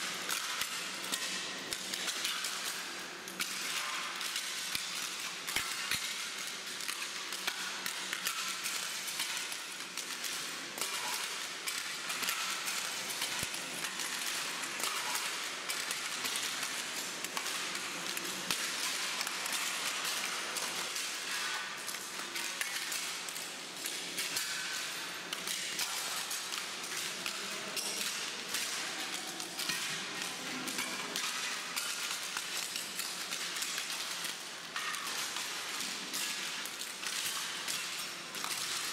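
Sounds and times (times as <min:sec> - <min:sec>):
tiles clinking underfoot: 0:00.0 - 0:38.9.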